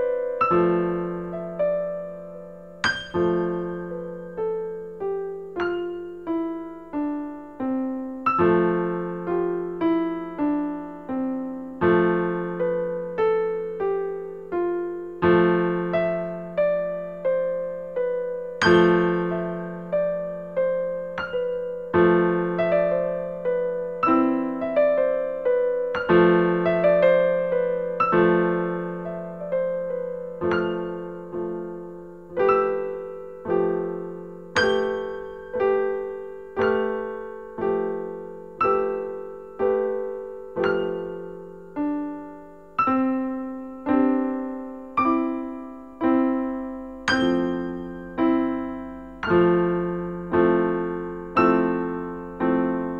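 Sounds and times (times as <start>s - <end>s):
solo piano music: 0.0s - 52.9s.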